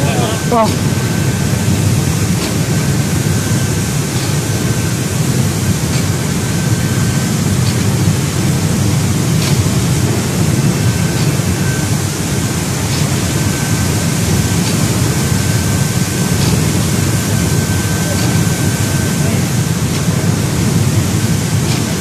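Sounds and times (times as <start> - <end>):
steady machine drone: 0.0 - 22.0
water churning and bubbling: 0.0 - 22.0.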